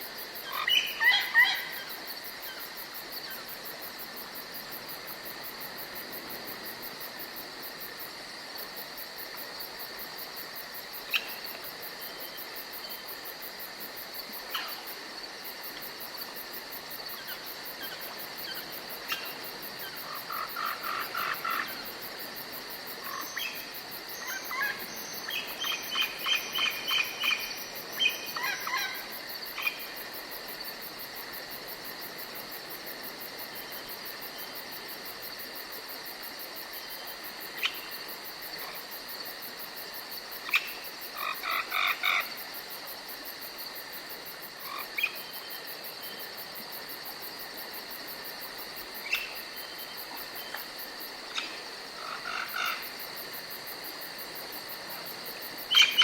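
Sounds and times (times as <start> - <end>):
crickets chirring: 0.0 - 56.0
frogs croaking: 0.0 - 56.0.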